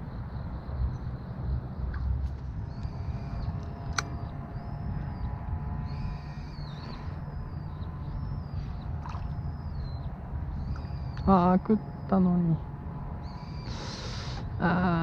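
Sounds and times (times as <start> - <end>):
steady low rumble: 0.0 - 15.0
high arched bird notes: 2.5 - 15.0.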